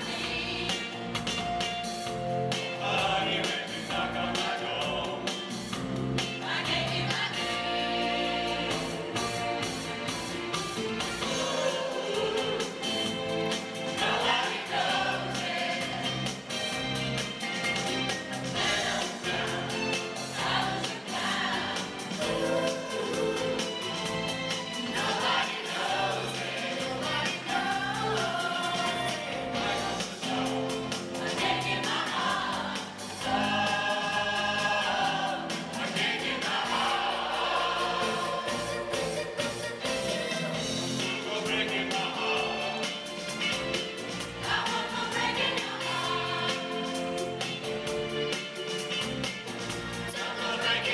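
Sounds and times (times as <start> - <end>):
choir singing with band: 0.0 - 50.9.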